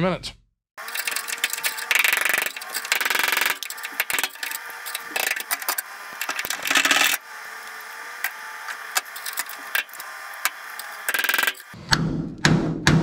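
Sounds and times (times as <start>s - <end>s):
drill cutting into sheet metal: 0.8s - 11.8s.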